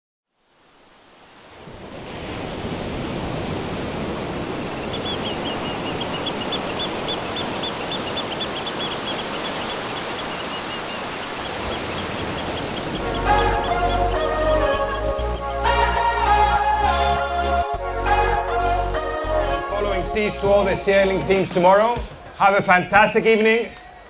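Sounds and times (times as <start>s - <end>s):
sea surf: 0.5s - 22.8s.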